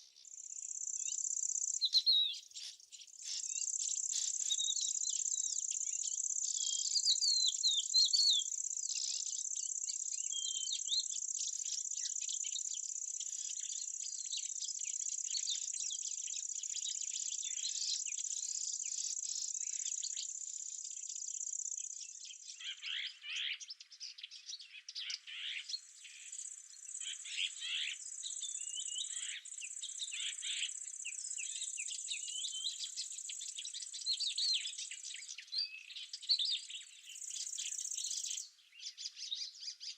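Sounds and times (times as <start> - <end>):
birds chirping: 0.0 - 39.9
insects trilling: 0.3 - 23.0, 25.3 - 35.4.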